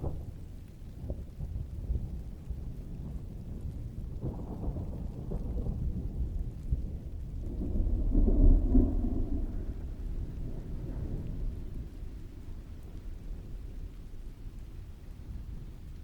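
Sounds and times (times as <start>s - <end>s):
distant rolling thunder: 0.0s - 16.0s
steady rain: 0.0s - 16.0s.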